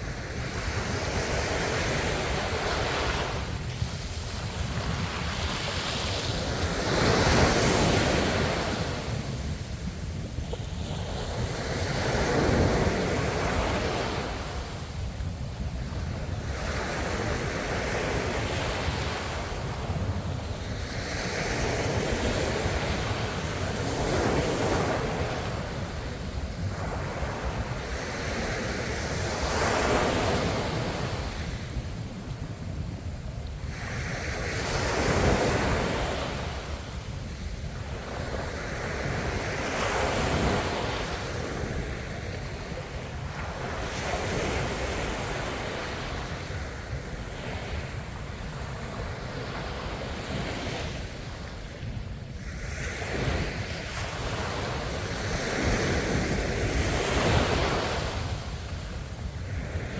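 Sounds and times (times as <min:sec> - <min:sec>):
ocean waves breaking on shore: 0:00.0 - 0:59.9
wind on microphone: 0:00.0 - 0:59.9.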